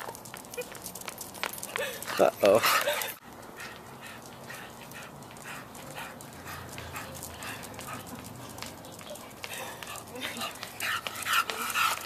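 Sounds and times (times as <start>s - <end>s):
dog panting: 1.4s - 12.0s.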